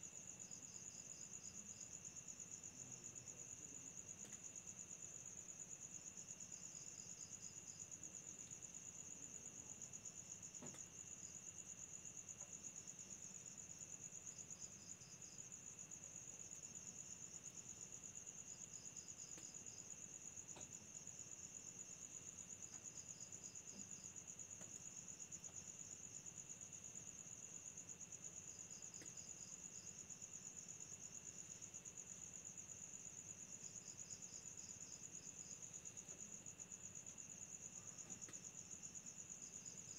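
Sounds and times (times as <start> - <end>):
crickets trilling: 0.4 - 39.9.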